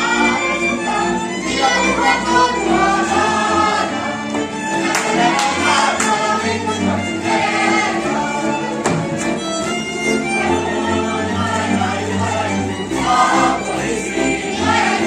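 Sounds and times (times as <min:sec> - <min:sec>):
folk dance music with fiddle: 0:00.0 - 0:15.0
group singing along: 0:00.0 - 0:15.0.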